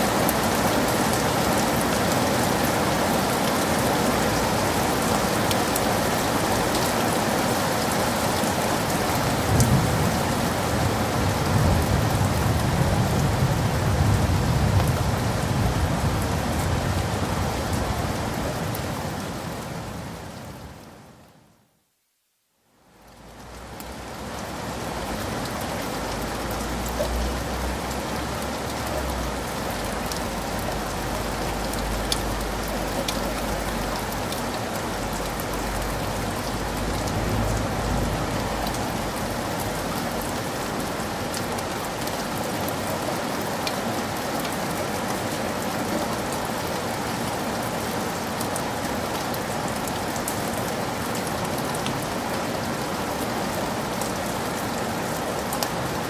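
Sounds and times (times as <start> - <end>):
heavy rain falling: 0.0 - 21.4, 22.7 - 56.0.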